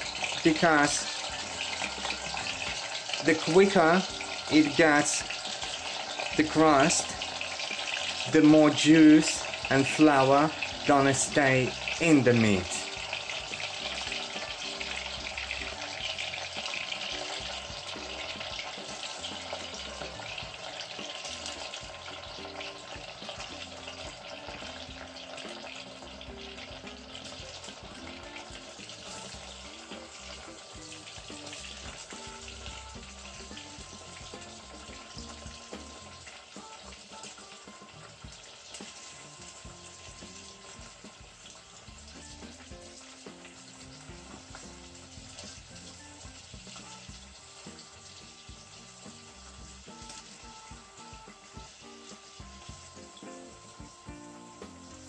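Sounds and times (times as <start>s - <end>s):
meat sizzling in hot oil: 0.0s - 55.0s.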